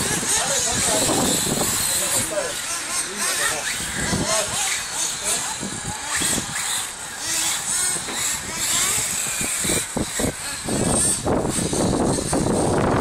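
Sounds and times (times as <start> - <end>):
toy buggy motor revving: 0.0 - 13.0.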